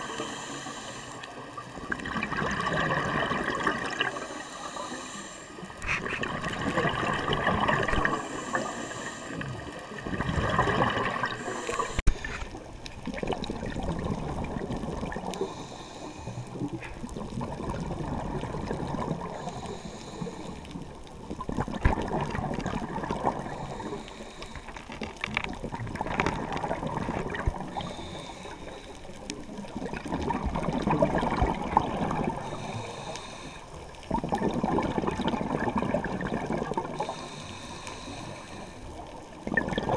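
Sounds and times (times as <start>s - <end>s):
underwater exhalation bubbles gurgling: 1.3s - 4.5s, 5.6s - 15.7s, 16.4s - 24.1s, 25.2s - 28.5s, 29.2s - 32.9s, 33.8s - 38.1s, 38.9s - 39.9s.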